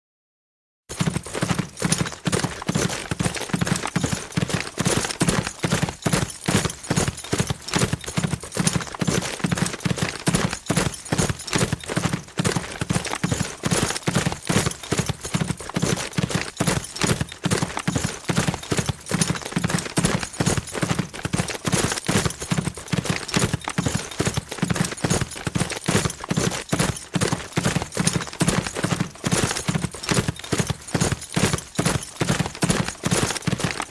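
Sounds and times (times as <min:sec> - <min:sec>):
horse hoofbeats galloping: 0:00.9 - 0:33.9.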